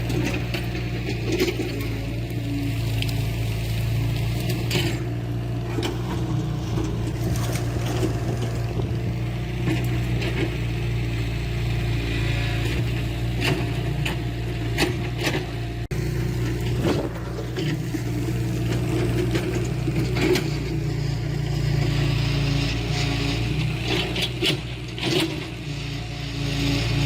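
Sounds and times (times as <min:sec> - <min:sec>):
diesel engine of heavy machinery: 0:00.0 - 0:27.0.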